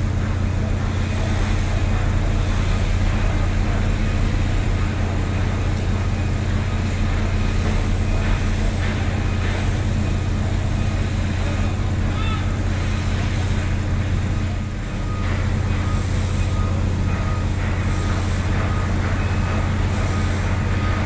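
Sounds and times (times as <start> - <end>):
crane diesel engine droning: 0.0 - 21.0.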